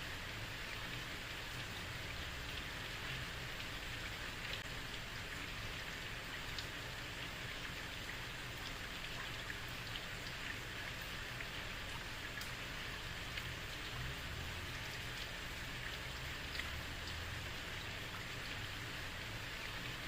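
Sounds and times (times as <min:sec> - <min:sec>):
heavy rain on a street: 0:00.0 - 0:20.0.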